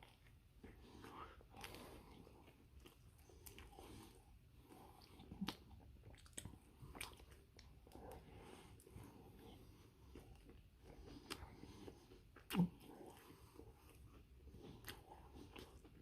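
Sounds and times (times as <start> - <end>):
chewing with wet mouth smacks: 0.0 - 16.0.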